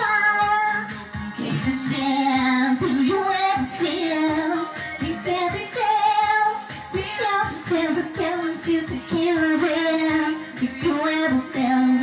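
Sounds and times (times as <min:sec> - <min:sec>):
backing track with steady beat: 0:00.0 - 0:12.0
woman singing pop song: 0:00.0 - 0:12.0.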